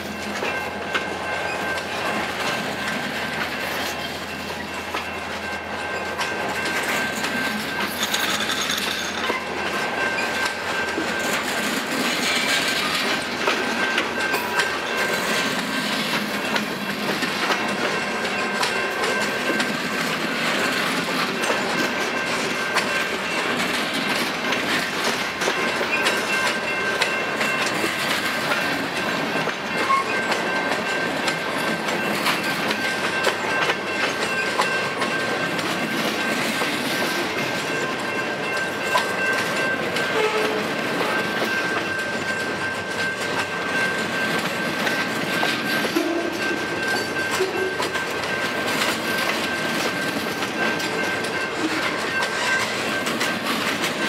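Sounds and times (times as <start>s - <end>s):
freight train cars rolling: 0.0s - 54.0s
wheels clicking over rail joints: 0.0s - 54.0s.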